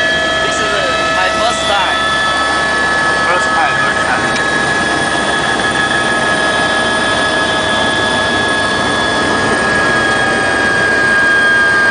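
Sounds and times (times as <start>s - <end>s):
helicopter turbine and rotors: 0.0s - 11.9s.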